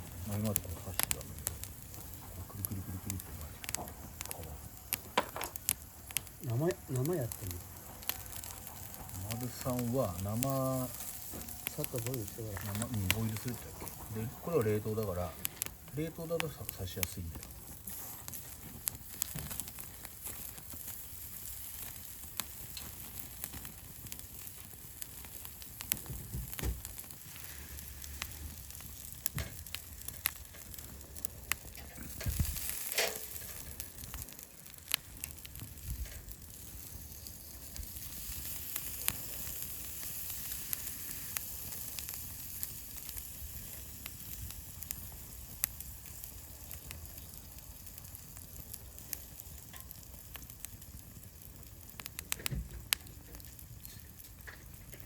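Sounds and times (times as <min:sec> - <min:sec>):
campfire crackling and popping: 0:00.0 - 0:55.0
skewers sizzling: 0:00.0 - 0:55.0.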